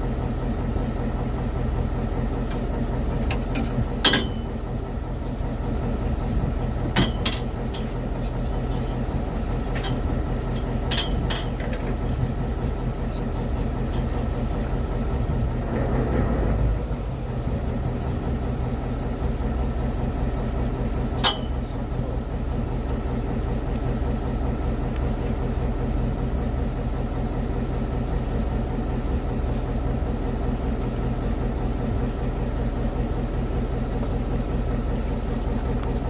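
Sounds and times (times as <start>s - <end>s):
boat engine humming: 0.0s - 36.0s.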